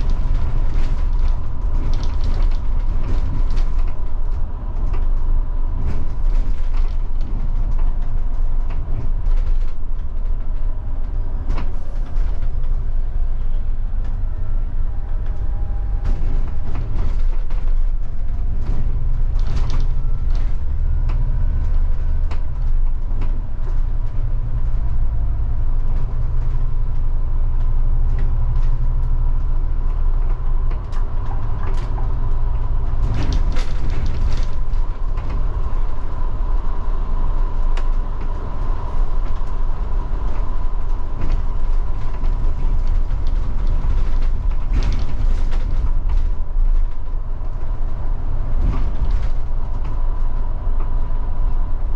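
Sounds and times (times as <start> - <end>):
bus diesel engine rumble: 0.0 - 51.9
interior rattles and creaks: 0.0 - 51.9.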